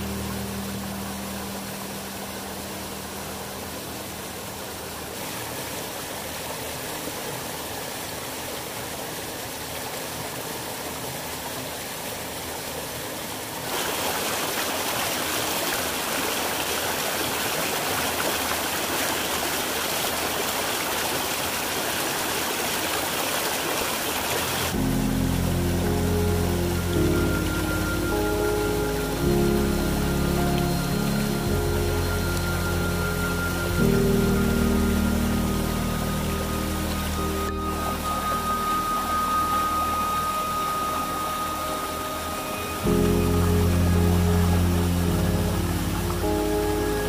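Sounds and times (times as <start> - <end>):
stream rushing over rocks: 0.0 - 47.0.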